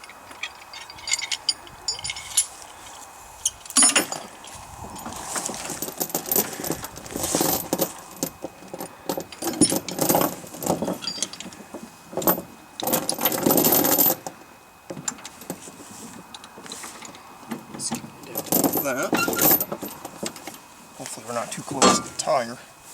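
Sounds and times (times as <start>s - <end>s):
chain links rattling and clinking: 0.0s - 14.4s, 16.3s - 22.5s.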